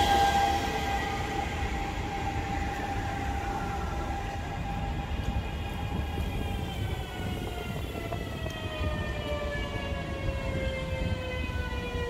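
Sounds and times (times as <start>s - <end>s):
low rumble of running train: 0.0s - 12.0s
train traction motor whine: 0.0s - 12.0s.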